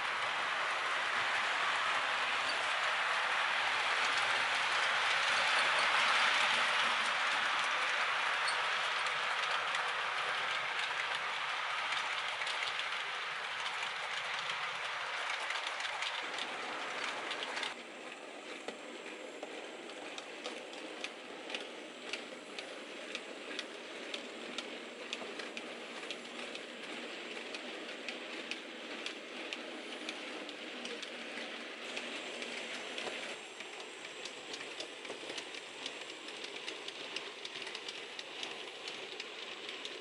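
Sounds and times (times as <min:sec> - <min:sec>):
model train wheels rolling: 0:00.0 - 0:40.0
wheels clicking over rail joints: 0:00.0 - 0:40.0.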